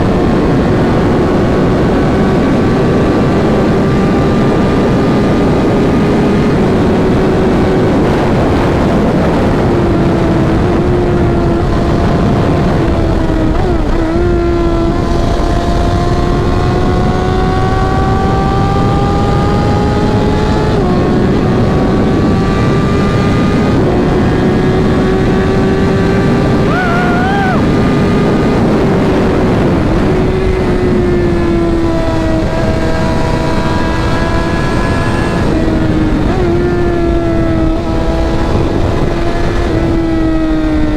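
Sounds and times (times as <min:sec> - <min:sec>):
motorcycle engine running: 0:00.0 - 0:40.9
wind rush: 0:00.0 - 0:40.9.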